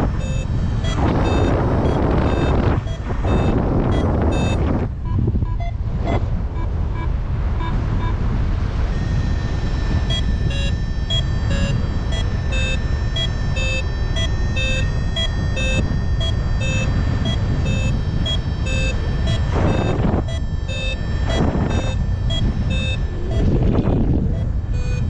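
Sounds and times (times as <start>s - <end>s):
variometer beeping: 0.0s - 25.0s
wind rushing over microphone: 0.0s - 25.0s.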